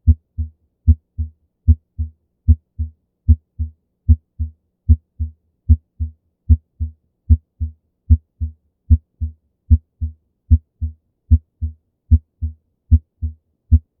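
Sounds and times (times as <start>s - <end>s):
heartbeat lub-dub: 0.0s - 14.0s.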